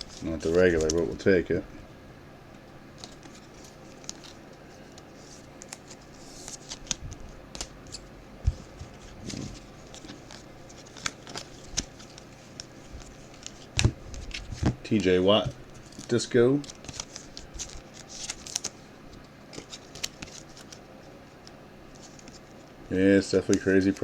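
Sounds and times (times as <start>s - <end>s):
trading cards being flipped: 0.0s - 1.2s, 3.0s - 15.1s, 15.8s - 18.8s, 19.5s - 22.6s.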